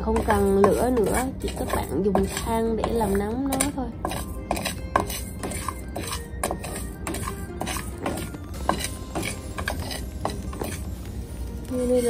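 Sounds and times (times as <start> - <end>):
wooden spatula scraping rice in pan: 0.0 - 12.0.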